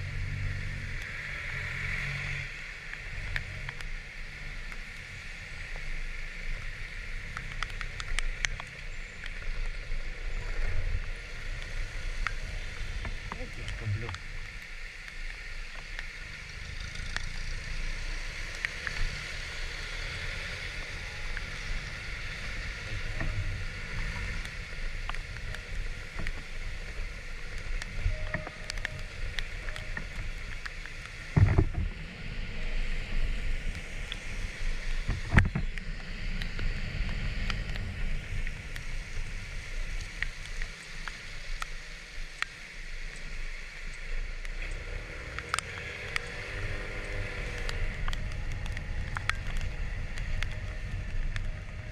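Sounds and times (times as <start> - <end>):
tyres on wet road: 0.0 - 51.9.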